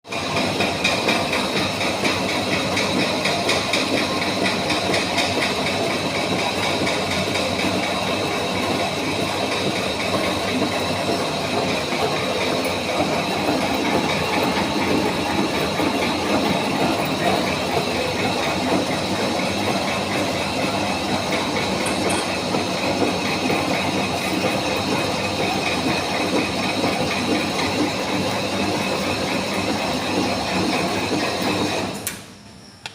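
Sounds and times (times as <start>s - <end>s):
machine clattering and rattling: 0.2s - 32.0s.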